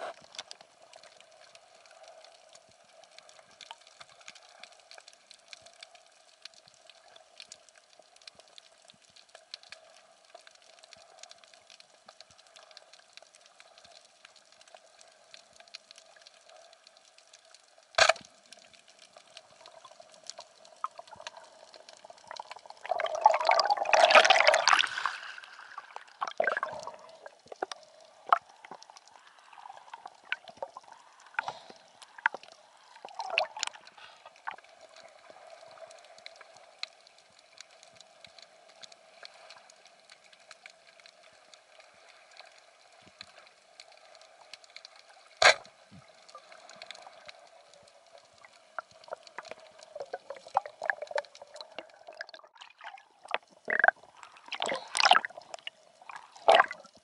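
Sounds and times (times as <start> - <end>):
small scattered clicks and ticks: 0.0 - 23.8, 24.7 - 52.5, 53.1 - 57.0
faint underwater water wash: 0.0 - 57.0.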